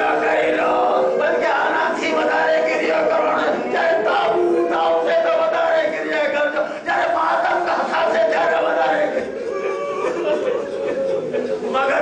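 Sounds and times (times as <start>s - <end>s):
group of voices chanting: 0.0s - 12.0s.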